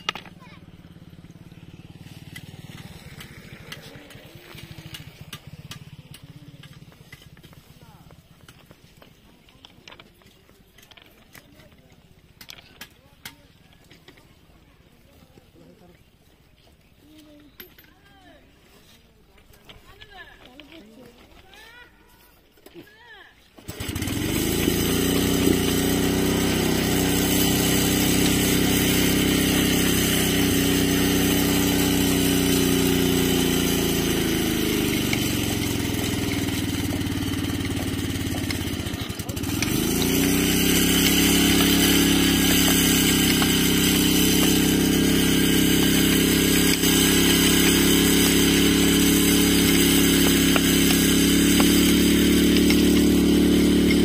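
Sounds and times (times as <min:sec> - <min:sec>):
small petrol engine running: 0:00.0 - 0:18.1, 0:23.4 - 0:54.0.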